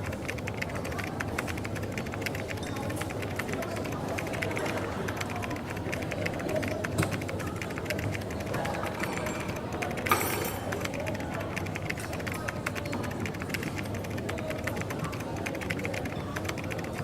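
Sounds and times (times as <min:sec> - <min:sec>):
faint chatter: 0:00.0 - 0:17.0
keyboard typing: 0:00.0 - 0:17.0.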